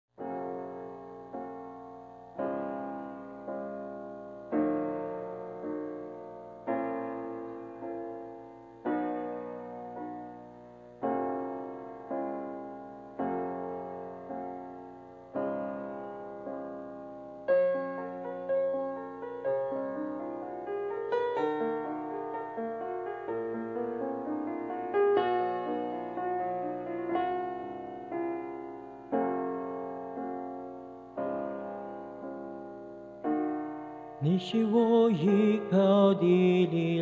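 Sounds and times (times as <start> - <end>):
piano playing slow chords: 0.2 - 37.0.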